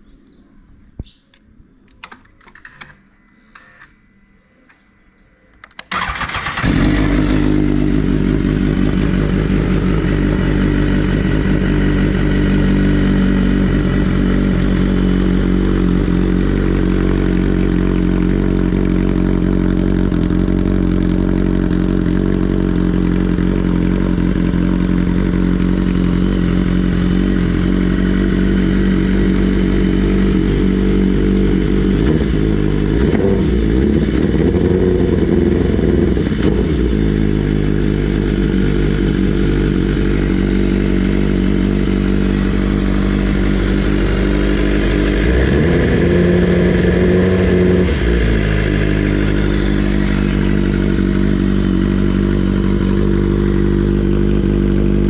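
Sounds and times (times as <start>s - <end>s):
motorcycle engine starting and idling: 5.6s - 55.0s.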